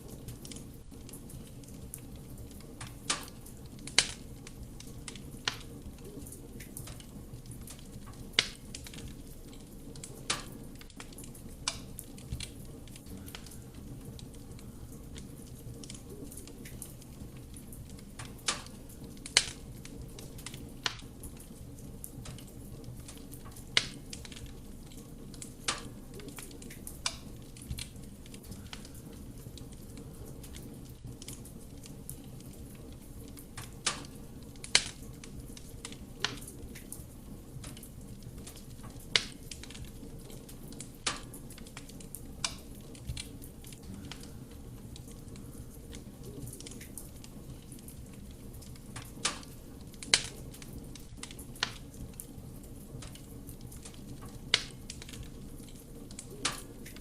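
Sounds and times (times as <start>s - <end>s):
crackles and pops of burning logs: 0.0s - 57.0s
low rumble of fire: 0.0s - 57.0s.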